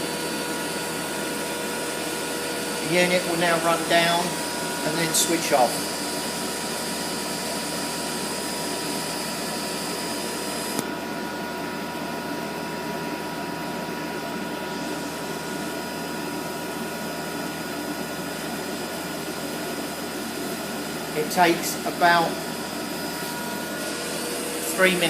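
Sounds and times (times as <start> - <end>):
heater fan whirring: 0.0 - 25.0.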